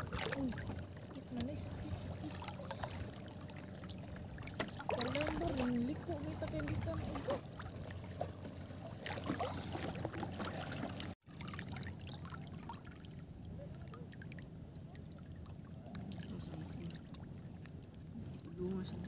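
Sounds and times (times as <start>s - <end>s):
seawater lapping and trickling: 0.0s - 19.0s
small water splashes: 0.0s - 19.0s.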